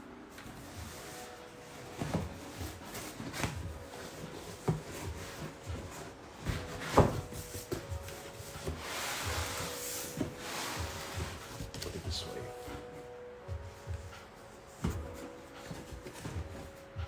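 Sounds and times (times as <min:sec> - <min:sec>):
cardboard packaging being handled: 0:00.2 - 0:17.0.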